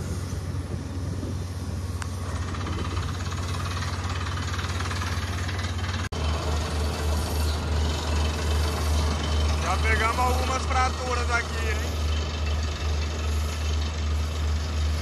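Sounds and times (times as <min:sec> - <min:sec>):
pulsing low engine hum: 0:00.0 - 0:15.0.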